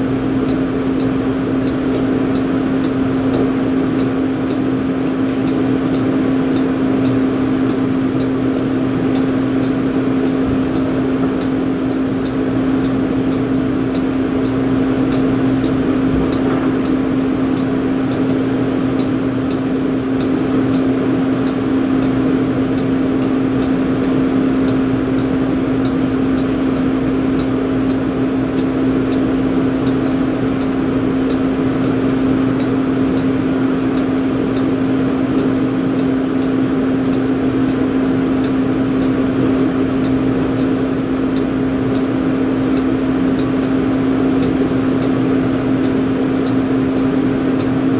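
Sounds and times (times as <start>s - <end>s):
machinery humming: 0.0s - 47.9s.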